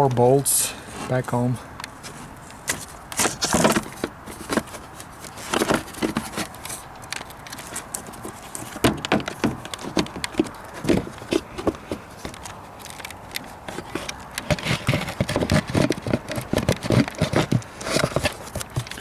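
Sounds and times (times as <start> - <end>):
engine parts knocking and scraping: 0.0 - 19.0.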